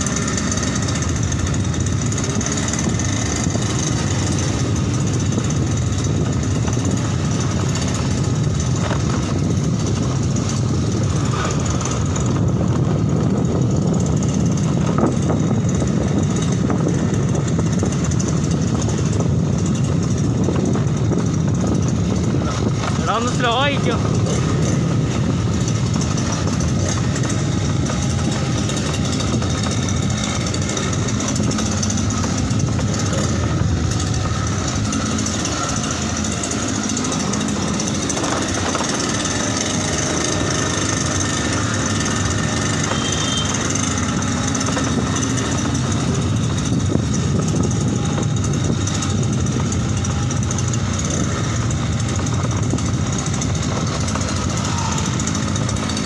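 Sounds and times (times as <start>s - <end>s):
two-stroke engine running: 0.0s - 56.0s.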